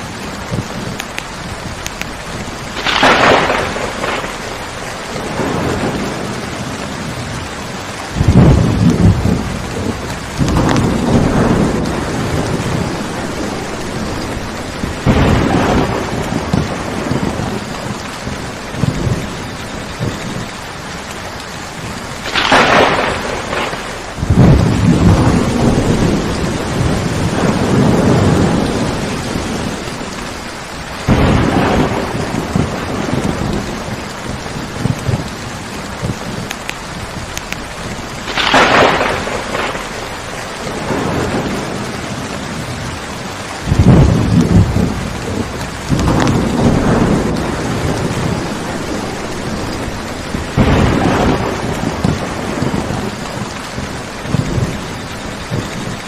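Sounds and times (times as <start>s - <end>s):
sharp thunder clap: 0.0s - 7.5s, 8.1s - 20.4s, 22.2s - 30.2s, 31.0s - 43.0s, 43.6s - 56.0s
steady rain: 0.0s - 56.0s
thunder rumbling: 0.0s - 56.0s.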